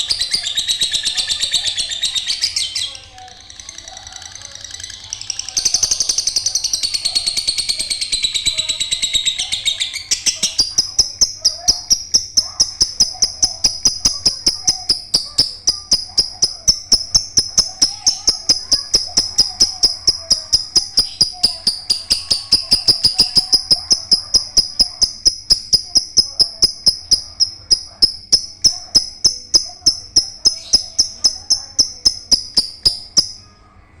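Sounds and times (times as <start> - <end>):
lovebird chattering shrill chirps: 0.0 - 33.6.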